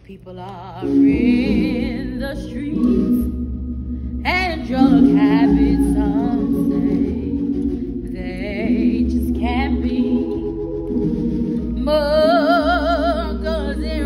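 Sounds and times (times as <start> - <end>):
woman singing gospel: 0.0 - 3.4, 4.2 - 10.7, 11.8 - 14.0
sustained low chords: 0.8 - 14.0.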